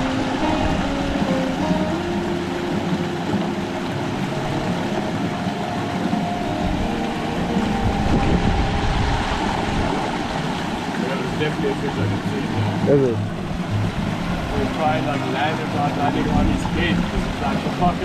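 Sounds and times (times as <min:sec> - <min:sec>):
mountain stream cascading over rocks: 0:00.0 - 0:18.0
wind buffeting microphone: 0:00.0 - 0:18.0.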